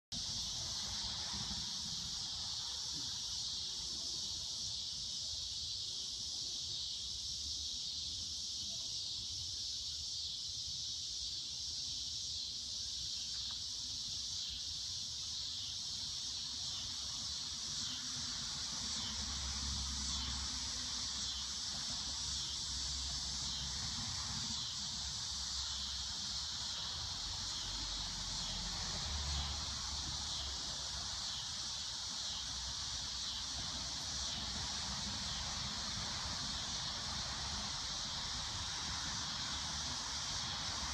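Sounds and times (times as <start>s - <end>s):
high-pitched insect chorus: 0.2s - 40.9s.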